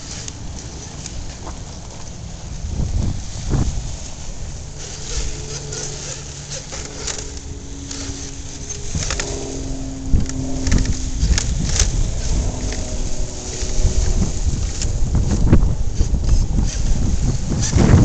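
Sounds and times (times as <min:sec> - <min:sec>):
electric motor whining: 0:02.2 - 0:18.0.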